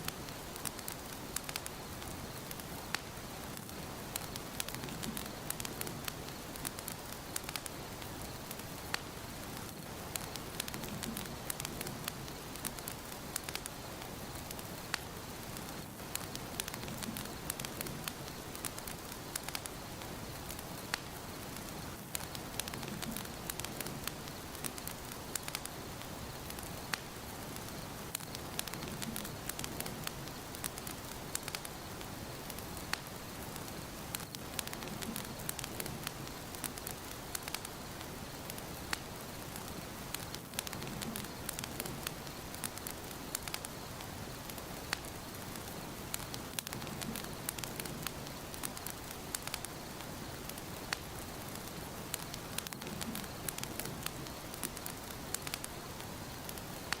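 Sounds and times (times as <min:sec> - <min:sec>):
fire hiss: 0:00.0 - 0:57.0
wood fire crackling and popping: 0:00.0 - 0:57.0.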